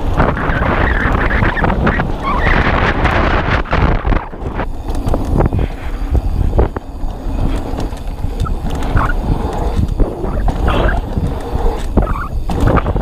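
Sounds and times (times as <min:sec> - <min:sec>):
bike rattling and clicking: 0:00.0 - 0:13.0
bike tyre noise: 0:00.0 - 0:13.0
wind rushing over microphone: 0:00.0 - 0:13.0.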